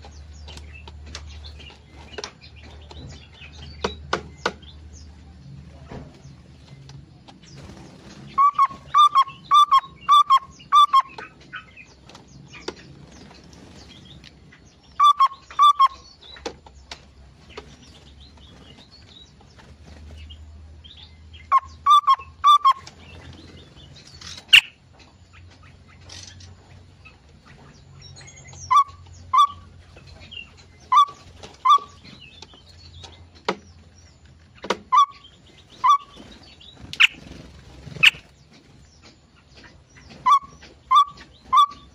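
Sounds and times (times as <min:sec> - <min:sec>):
small birds calling: 0:00.0 - 0:41.9.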